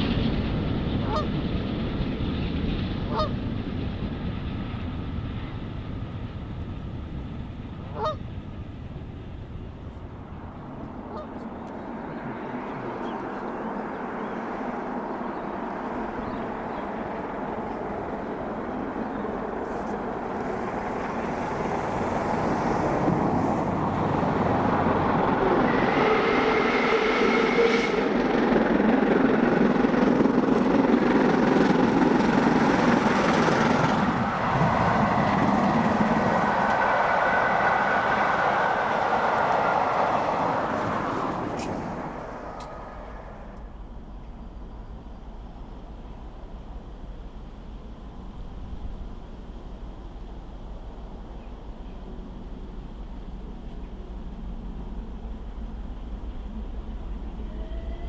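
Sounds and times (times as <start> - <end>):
train wheels rolling on rails: 0.0 - 58.0
steam locomotive exhaust: 9.8 - 58.0.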